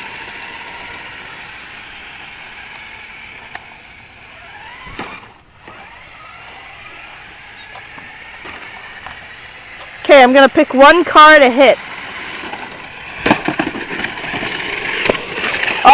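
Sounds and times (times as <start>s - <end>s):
toy car electric motor whining: 0.0s - 15.9s
wheels hissing on pavement: 0.0s - 15.9s.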